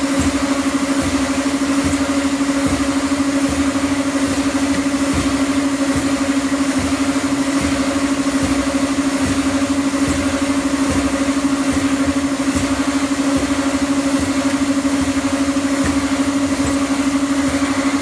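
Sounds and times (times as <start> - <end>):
escalator mechanical hum: 0.0 - 18.0.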